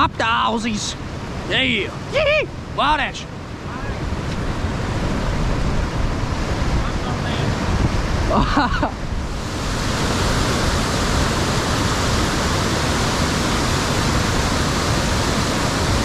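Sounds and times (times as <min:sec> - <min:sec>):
creek rapids rushing: 0:00.0 - 0:16.0.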